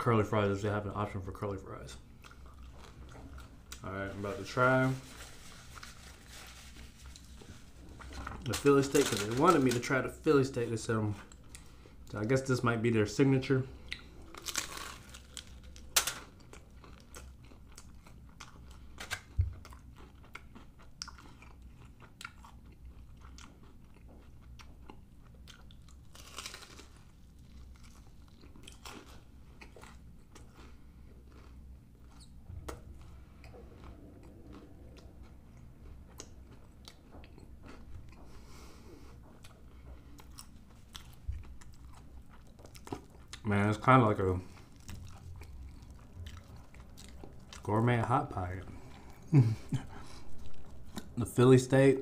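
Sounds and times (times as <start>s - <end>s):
person chewing with crunches: 1.9s - 9.9s, 13.8s - 51.2s.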